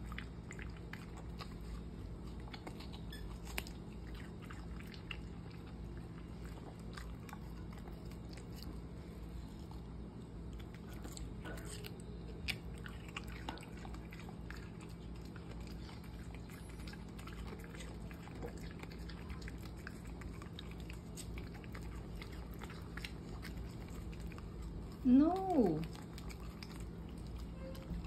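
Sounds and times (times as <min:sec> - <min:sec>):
dog crunching watermelon: 0:00.0 - 0:28.0.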